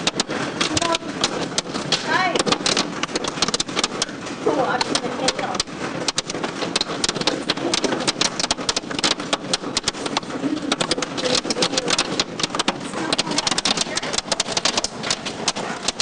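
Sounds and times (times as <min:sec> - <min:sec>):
hailstone impacts clattering: 0:00.0 - 0:16.0
steady rushing hiss: 0:00.0 - 0:16.0.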